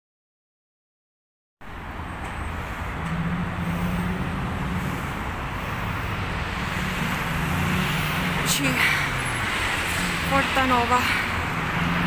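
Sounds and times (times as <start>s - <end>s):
street traffic: 1.6s - 12.0s
vehicle engine hum: 1.6s - 12.0s.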